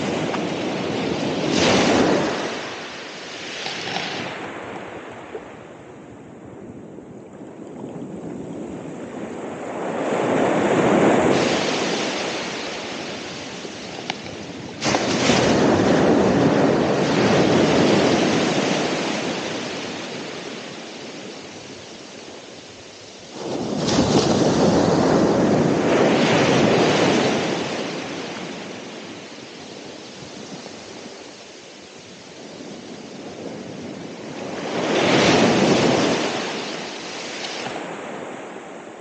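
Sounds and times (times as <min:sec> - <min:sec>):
ocean waves breaking on shore: 0:00.0 - 0:39.0.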